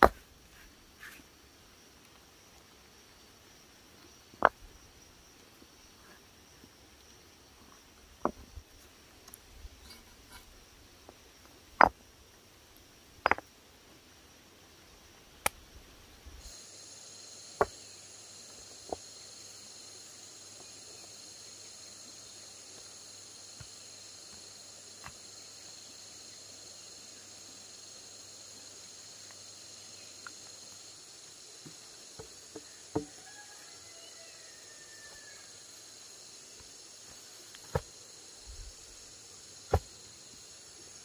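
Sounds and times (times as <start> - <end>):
insects buzzing: 0.0 - 41.0.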